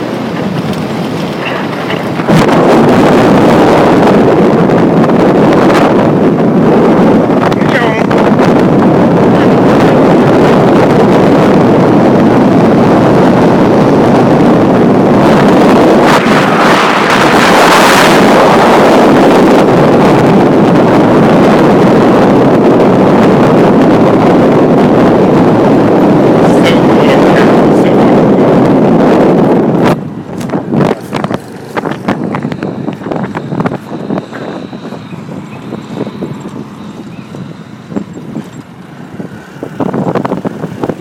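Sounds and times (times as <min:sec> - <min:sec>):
road and engine noise: 0:00.0 - 0:41.0
wind rushing over microphone: 0:00.0 - 0:41.0.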